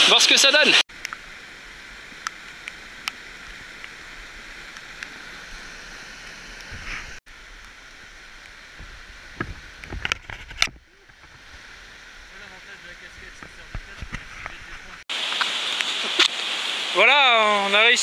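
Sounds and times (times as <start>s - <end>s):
mountain stream rushing: 0.0s - 18.0s.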